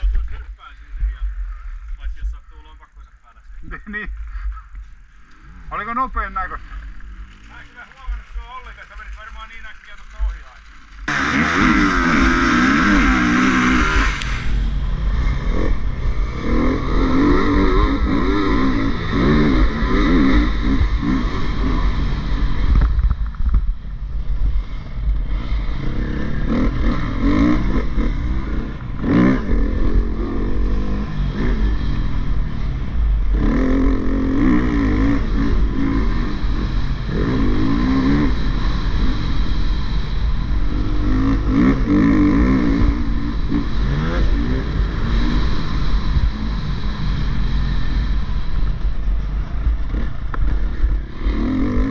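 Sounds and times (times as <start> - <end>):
motocross bike engine revving: 3.7 - 51.9
wind rumble on microphone: 10.0 - 51.9.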